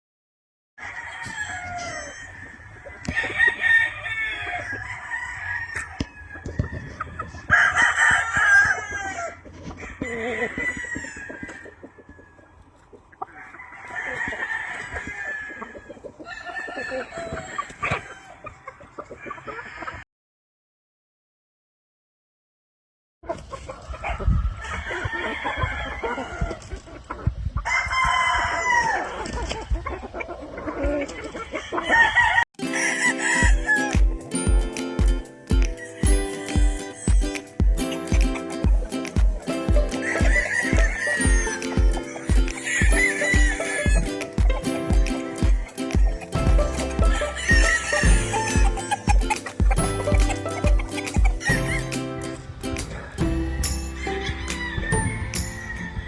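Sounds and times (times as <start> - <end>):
roosters crowing: 0.8 - 20.0, 23.7 - 27.0, 27.6 - 56.0.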